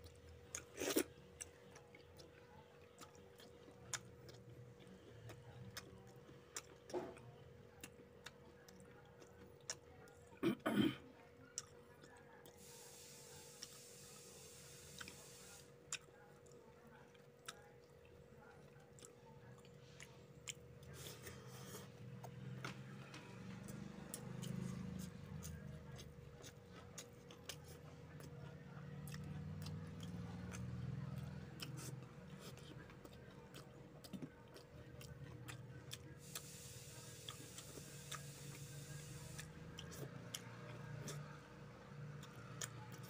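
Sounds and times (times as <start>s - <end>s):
person chewing and lip smacking: 0.0s - 10.3s, 11.5s - 12.7s, 15.9s - 22.7s, 23.6s - 41.3s, 42.0s - 43.0s.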